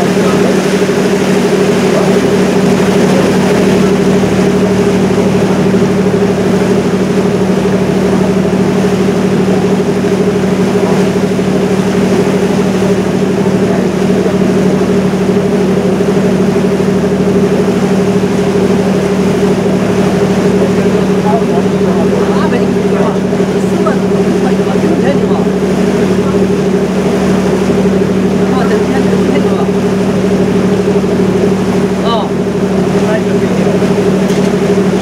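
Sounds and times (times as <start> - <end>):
boat engine humming: 0.0 - 35.0
rushing water wash: 0.0 - 35.0.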